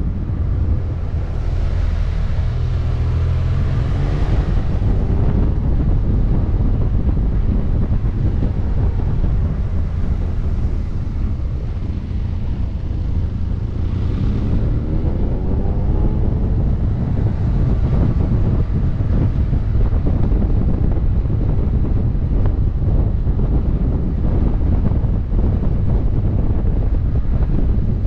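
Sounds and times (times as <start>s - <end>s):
motorcycle engine accelerating: 0.0s - 28.0s
wind buffeting microphone: 0.0s - 28.0s.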